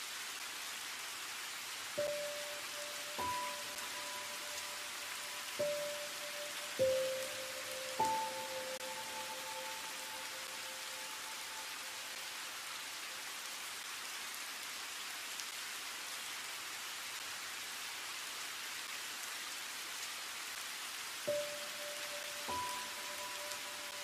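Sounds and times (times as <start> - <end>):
rain falling on garden: 0.0 - 24.0.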